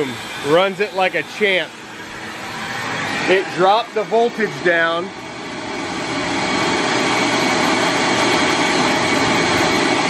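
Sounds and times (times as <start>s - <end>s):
electric vacuum running: 0.0s - 10.0s.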